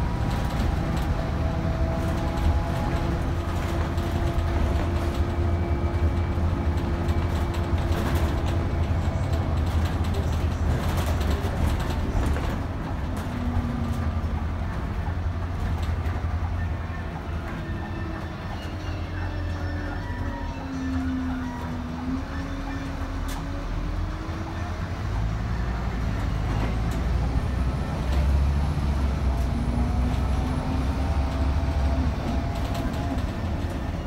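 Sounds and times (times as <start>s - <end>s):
bus engine and road drone: 0.0s - 34.0s.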